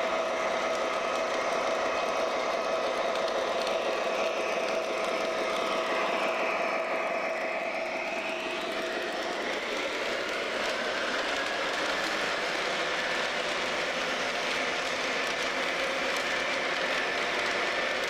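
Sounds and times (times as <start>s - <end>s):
model locomotive diesel engine sound: 0.0s - 18.0s
motor and wheel noise: 0.0s - 18.0s
steady whine: 0.0s - 18.0s.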